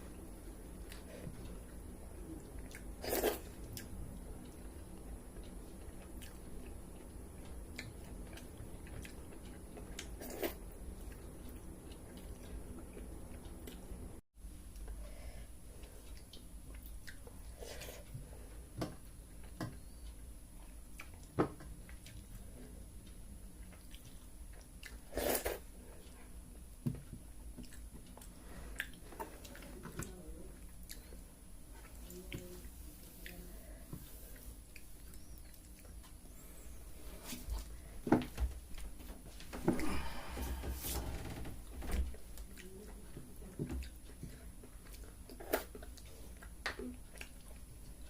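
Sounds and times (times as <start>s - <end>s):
person chewing food: 0.6s - 14.1s, 15.7s - 32.5s, 33.2s - 37.9s, 42.1s - 48.0s.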